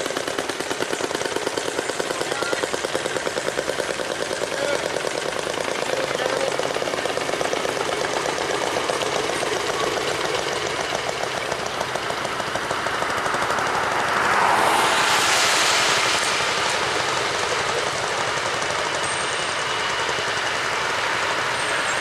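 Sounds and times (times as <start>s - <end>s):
rushing of passing rail car: 0.0s - 22.0s
small engines popping: 0.0s - 22.0s.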